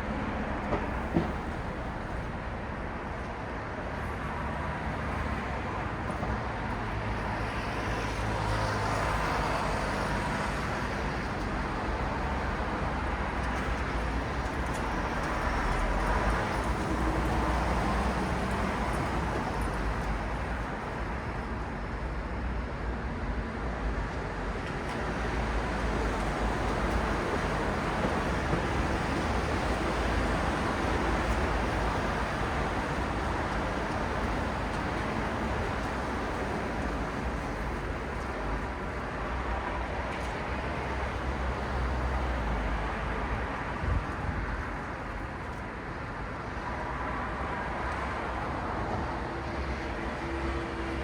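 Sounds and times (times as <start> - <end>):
road traffic passing: 0.0 - 51.0.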